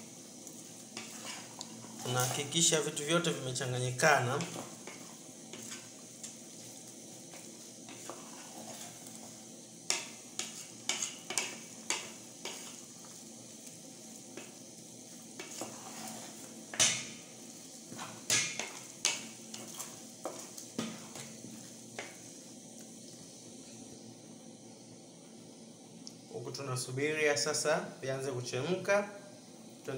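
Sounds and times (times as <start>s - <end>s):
faint steady hiss: 0.0s - 29.9s.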